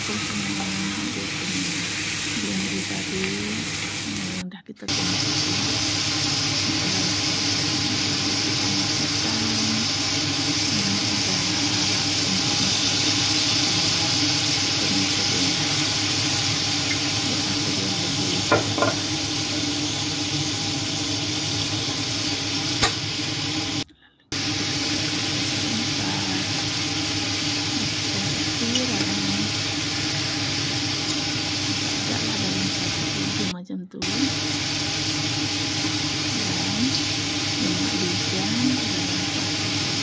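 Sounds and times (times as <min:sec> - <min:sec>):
food sizzling in a wok: 0:00.0 - 0:23.8, 0:24.4 - 0:40.0.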